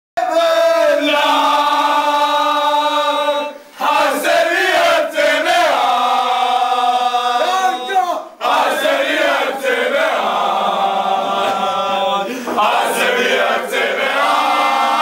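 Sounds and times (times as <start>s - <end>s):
young men singing in unison: 0.2s - 7.8s, 8.4s - 15.0s.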